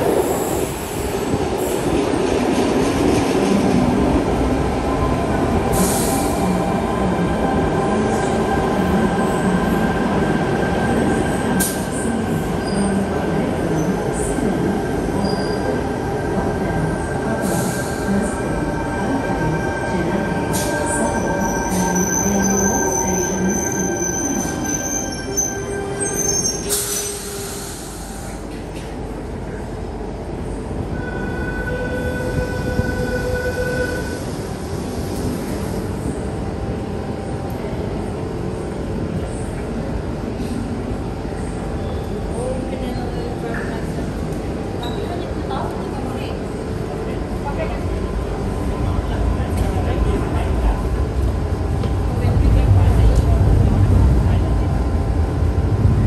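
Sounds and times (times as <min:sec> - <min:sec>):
stationary train rumble: 0:00.0 - 0:56.0.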